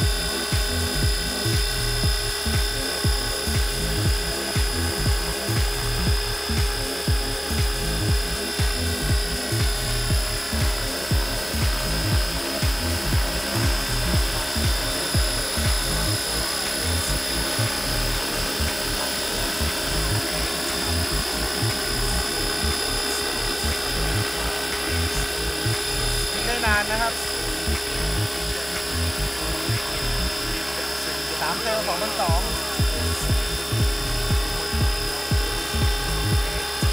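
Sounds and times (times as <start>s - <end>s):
model helicopter drive whine: 0.0s - 36.9s
rotor buffeting: 0.0s - 36.9s.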